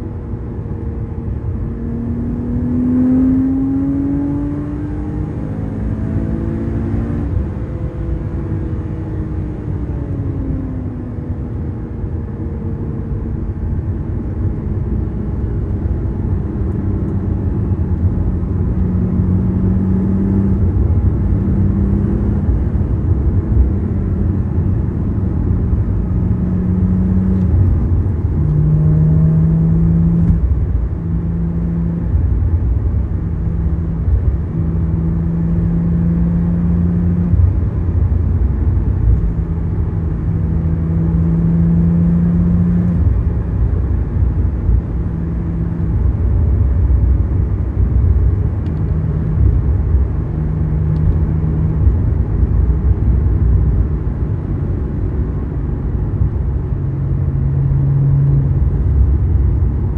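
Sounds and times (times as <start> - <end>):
car engine cruising: 0.0 - 59.9
road and tyre rumble: 0.0 - 59.9.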